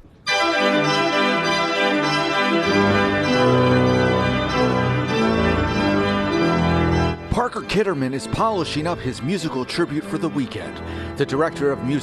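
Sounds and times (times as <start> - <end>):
church organ chords: 0.3 - 12.0
deep organ bass notes: 0.3 - 12.0.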